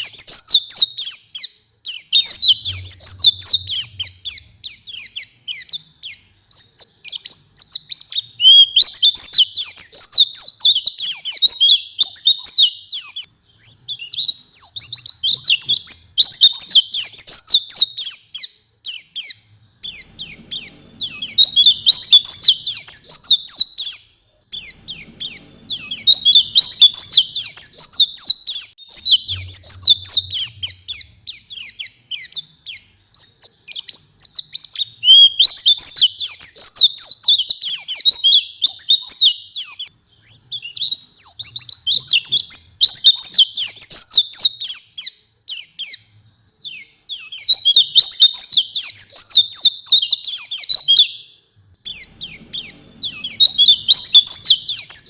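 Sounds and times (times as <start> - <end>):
bird singing high twittering song: 0.0 - 55.0.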